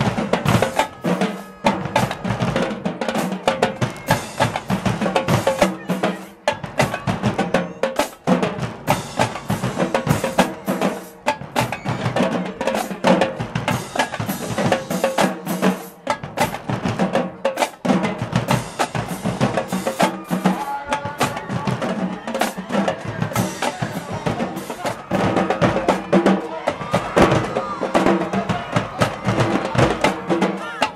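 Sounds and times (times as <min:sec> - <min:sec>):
drumline snare and bass drums: 0:00.0 - 0:30.9.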